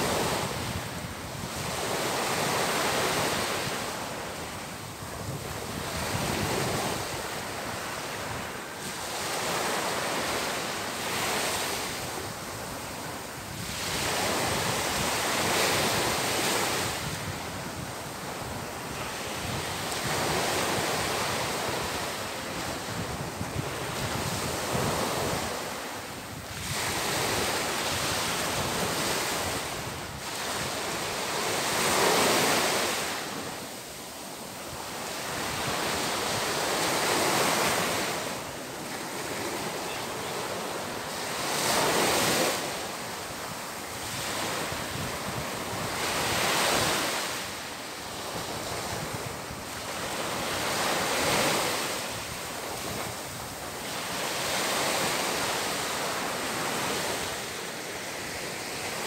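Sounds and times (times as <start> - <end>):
waves breaking on sandy beach: 0.0 - 59.0.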